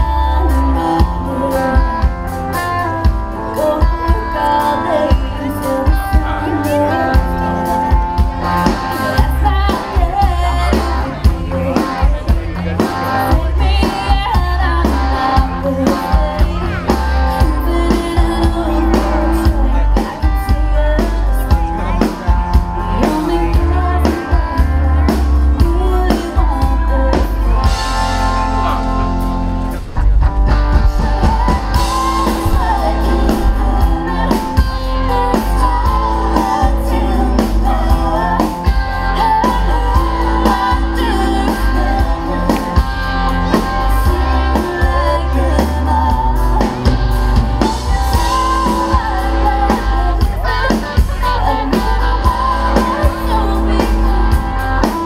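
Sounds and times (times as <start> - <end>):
woman singing: 0.0 - 28.1, 30.9 - 55.0
live band playing: 0.0 - 55.0.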